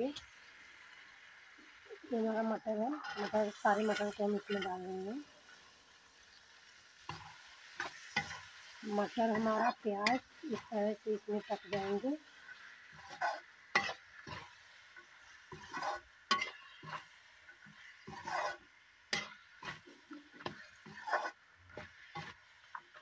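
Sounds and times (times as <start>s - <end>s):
faint frying sizzle: 0.0s - 23.0s
metal spatula scraping a pan: 2.6s - 5.6s, 7.0s - 23.0s.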